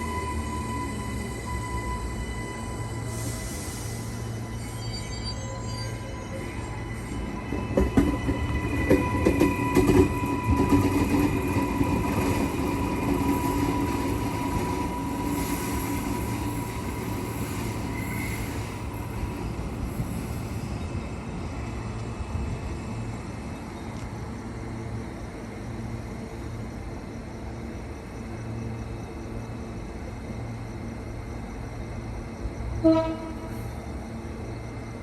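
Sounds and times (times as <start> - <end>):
train whine and wheel noise: 0.0 - 35.0.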